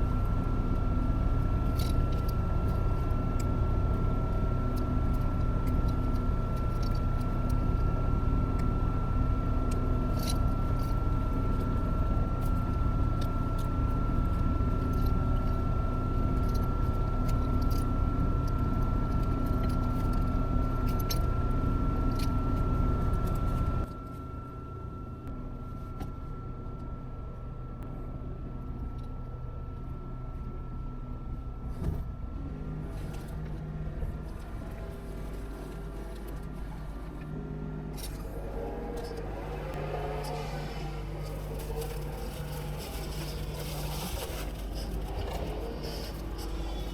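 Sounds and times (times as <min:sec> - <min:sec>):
heavy machine engine running: 0:00.0 - 0:46.9
thin steady whine: 0:00.0 - 0:46.9.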